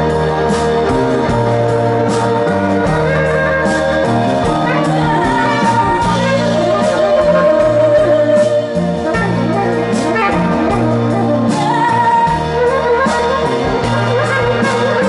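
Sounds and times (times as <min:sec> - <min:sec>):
drum and cymbal hits: 0:00.0 - 0:15.0
saxophone melody: 0:00.0 - 0:15.0.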